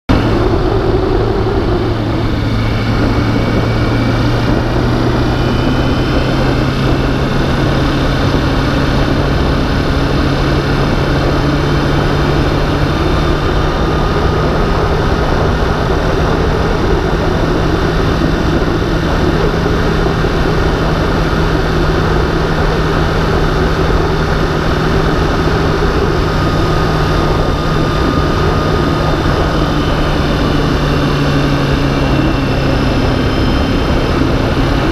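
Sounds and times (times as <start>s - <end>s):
motorcycle engine droning: 0.0s - 34.9s
wind rushing: 0.1s - 34.9s.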